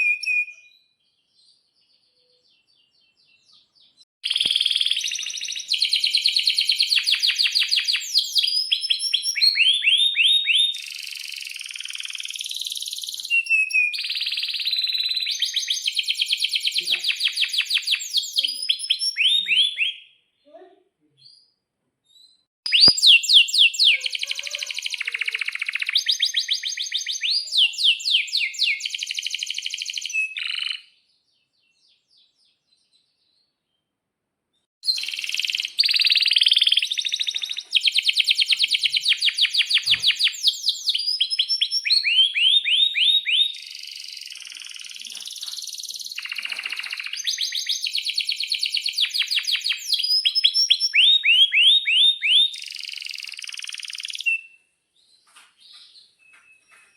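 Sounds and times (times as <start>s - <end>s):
canary singing trills: 0.0s - 20.6s, 22.2s - 31.2s, 34.8s - 54.6s.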